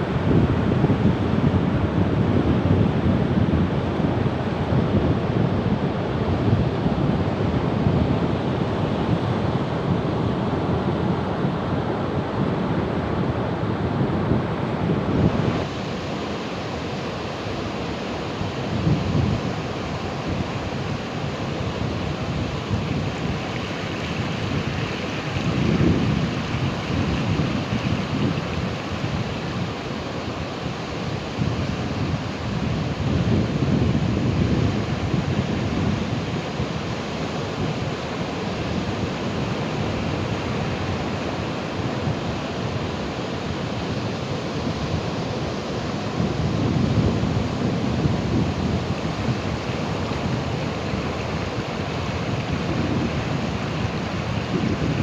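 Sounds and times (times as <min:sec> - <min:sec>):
wind buffeting microphone: 0:00.0 - 0:16.1, 0:18.3 - 0:55.0.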